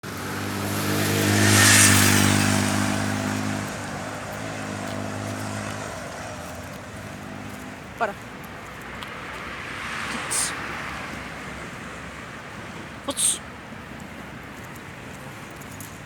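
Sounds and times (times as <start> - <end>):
vehicle engine droning: 0.0 - 13.1
rush of passing vehicle: 0.0 - 16.0.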